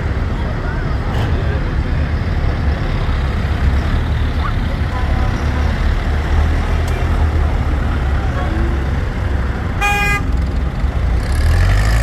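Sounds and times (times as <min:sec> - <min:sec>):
tractor engines rumbling: 0:00.0 - 0:12.0.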